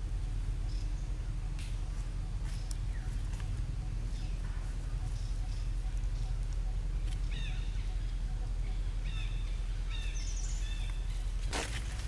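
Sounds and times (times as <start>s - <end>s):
bird chirping: 0.6s - 12.0s
bird trill: 0.7s - 11.3s.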